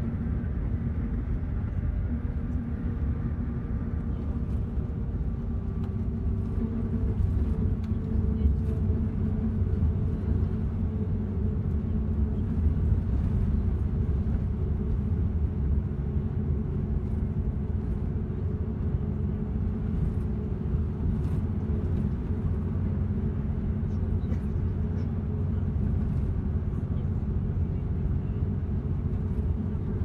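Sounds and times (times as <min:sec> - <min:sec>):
vehicle engine and road drone: 0:00.0 - 0:30.0.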